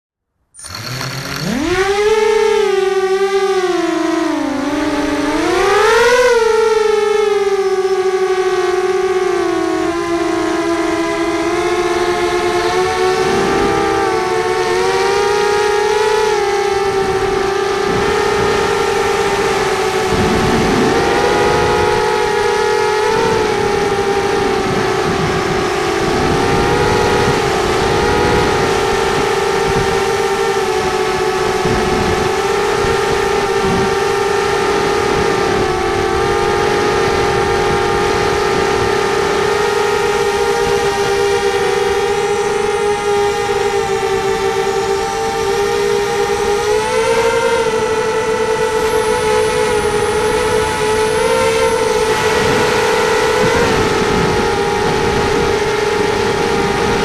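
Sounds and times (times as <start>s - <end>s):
quadcopter motors whining: 0.6s - 57.0s.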